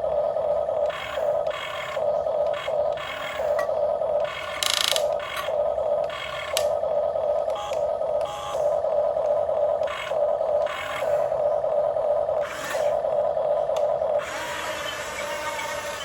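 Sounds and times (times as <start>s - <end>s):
toy gear motors whirring: 0.0s - 16.0s.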